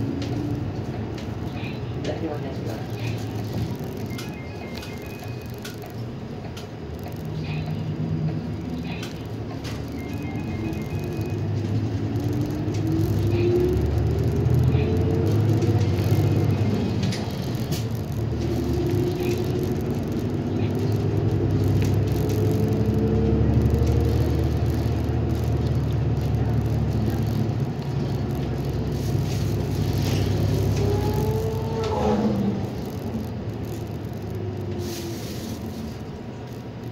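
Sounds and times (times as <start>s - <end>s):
bus engine and road rumble: 0.0s - 36.9s
rising engine whine: 0.0s - 36.9s.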